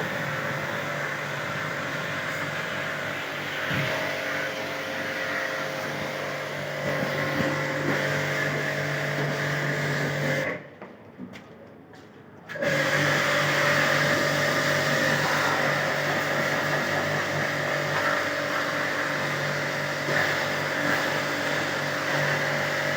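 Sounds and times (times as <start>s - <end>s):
pressure washer pump spraying water: 0.0s - 10.6s, 12.5s - 22.9s.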